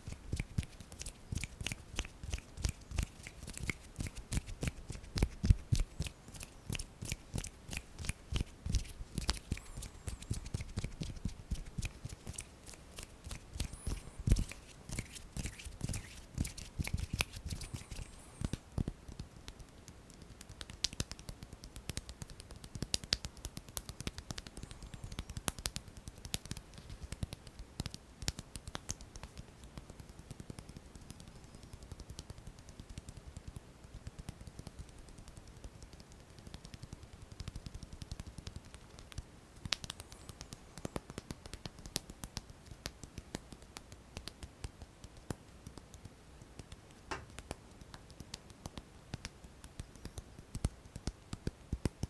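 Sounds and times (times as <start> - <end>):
fingers tapping and rubbing: 0.0 - 52.0.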